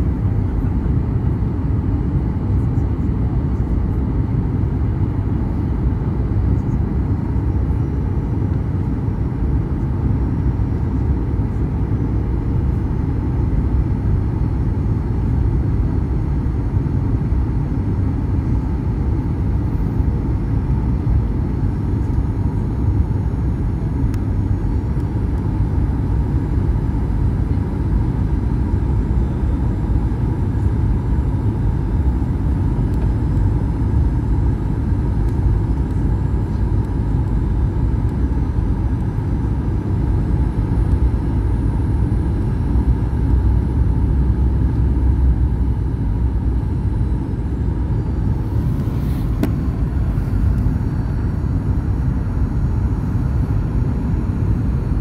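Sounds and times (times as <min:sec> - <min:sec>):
airplane engine and airflow rumble: 0:00.0 - 0:55.0
faint steady whine: 0:00.0 - 0:55.0.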